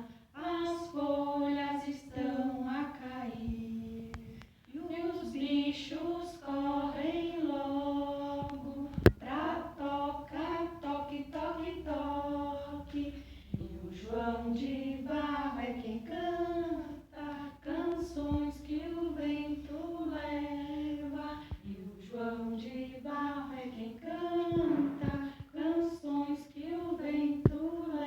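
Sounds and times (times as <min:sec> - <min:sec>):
woman and children singing: 0:00.0 - 0:28.0.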